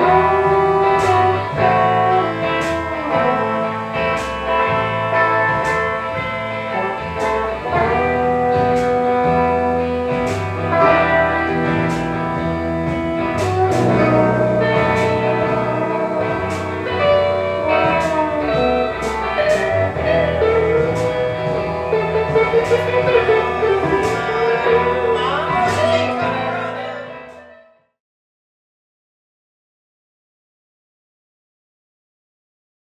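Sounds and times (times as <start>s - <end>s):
drum hits: 0.0s - 26.5s
guitar music: 0.0s - 27.7s.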